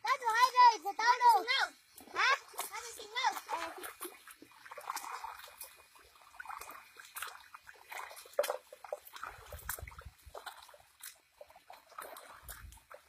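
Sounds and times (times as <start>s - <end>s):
muddy water splashing and sloshing: 0.0s - 13.0s.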